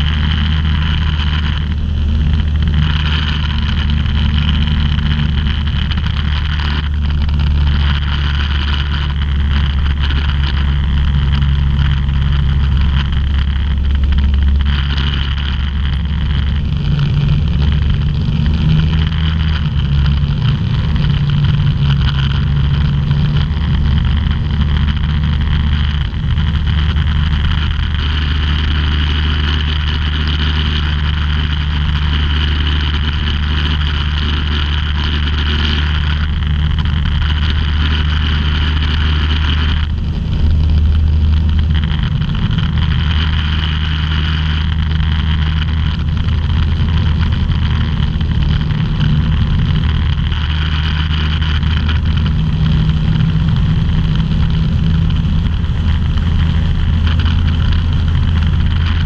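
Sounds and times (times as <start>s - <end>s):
aircraft engine and propeller: 0.0s - 59.0s
rushing air: 0.0s - 59.0s.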